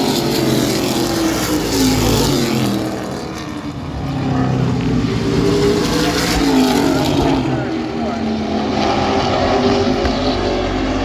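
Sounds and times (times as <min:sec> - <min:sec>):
race truck engines at speed: 0:00.0 - 0:11.0.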